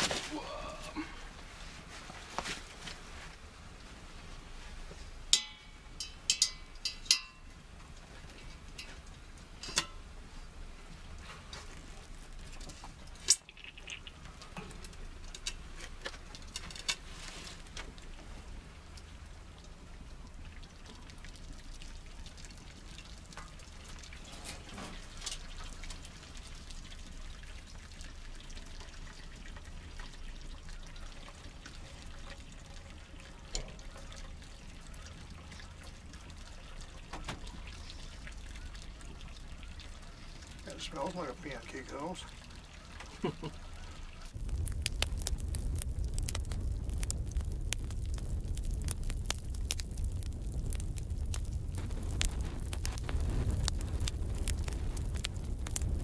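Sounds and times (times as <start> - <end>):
syrup trickling into a pot: 10.4 - 56.0.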